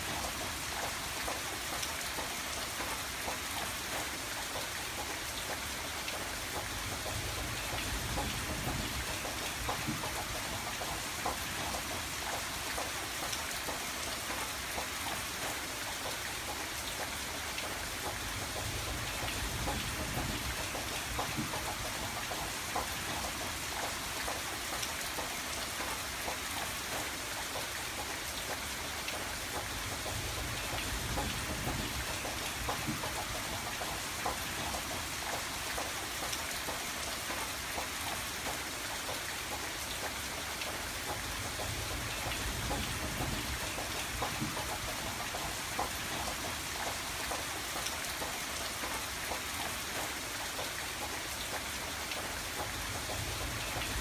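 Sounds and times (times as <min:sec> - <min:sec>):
rain pattering on window: 0:00.0 - 0:54.0.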